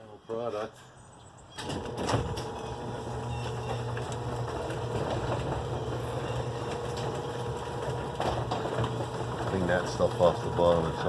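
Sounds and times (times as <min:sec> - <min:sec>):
garage door motor hum: 0:01.6 - 0:11.0.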